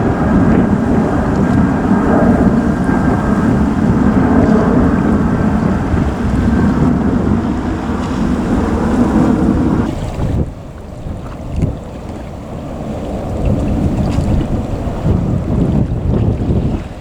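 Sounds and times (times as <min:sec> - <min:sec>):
jet engine roar: 0:00.0 - 0:17.0
wind on microphone: 0:00.0 - 0:17.0.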